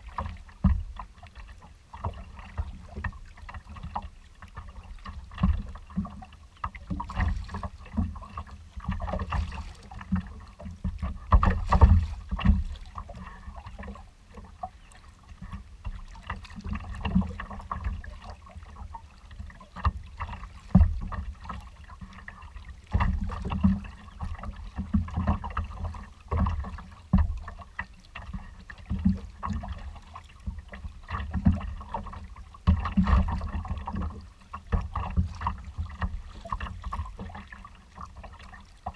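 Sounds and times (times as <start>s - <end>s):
water splashing against kayak hull: 0.0s - 38.9s.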